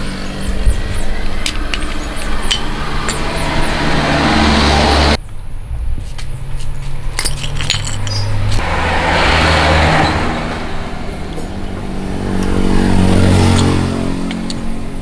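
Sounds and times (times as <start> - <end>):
vehicle engine running: 0.0 - 7.2, 8.2 - 15.0.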